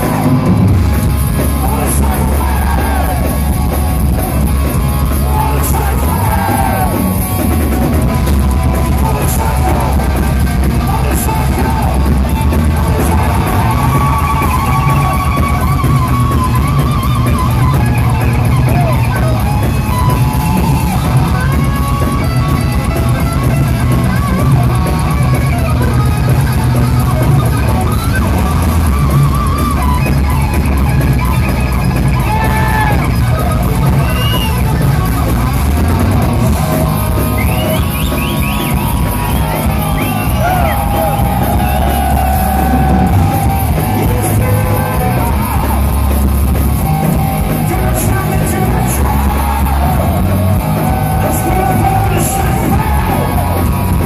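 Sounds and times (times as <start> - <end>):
heavy metal band playing: 0.0 - 54.0
wavering lead guitar line: 0.0 - 54.0.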